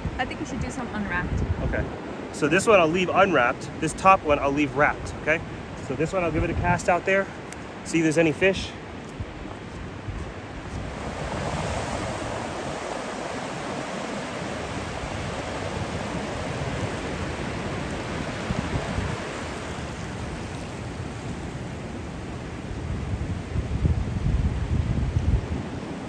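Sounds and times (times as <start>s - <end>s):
wind rumble on microphone: 0.0s - 2.4s, 4.0s - 7.8s, 8.5s - 26.0s
ocean surf breaking: 1.9s - 26.0s.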